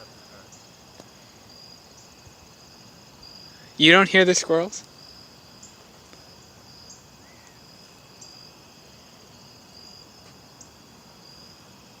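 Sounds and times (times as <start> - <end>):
insects trilling: 0.0 - 12.0
short high insect chirps: 0.0 - 12.0.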